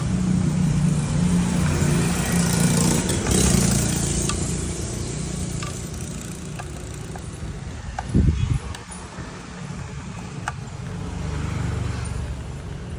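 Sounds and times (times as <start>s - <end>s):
engine humming: 0.0s - 12.9s.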